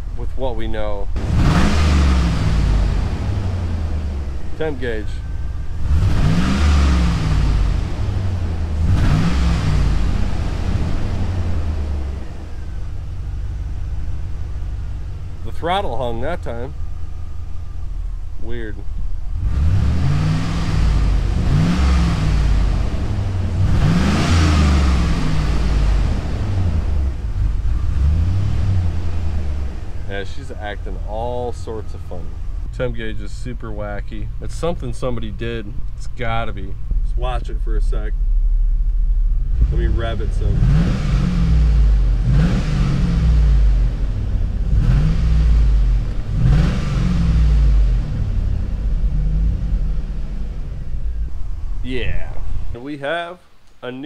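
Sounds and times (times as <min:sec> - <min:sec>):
misfiring car engine revving: 0:00.0 - 0:52.9.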